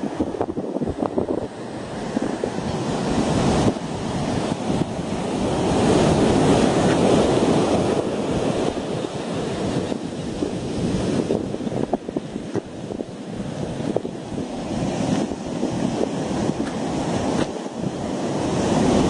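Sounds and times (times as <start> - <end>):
waves breaking and rushing ashore: 0.0 - 19.0
wind buffeting microphone: 0.0 - 19.0.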